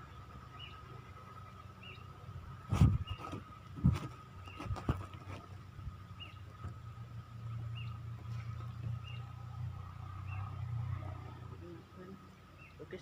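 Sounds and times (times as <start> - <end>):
bird chirping: 0.0 - 2.2, 2.8 - 3.6, 4.3 - 5.3, 5.9 - 13.0.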